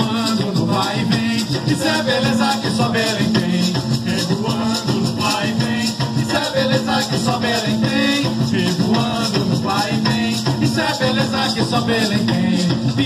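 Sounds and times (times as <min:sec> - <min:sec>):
hand drums: 0:00.0 - 0:13.0
maracas shaking: 0:00.0 - 0:13.0.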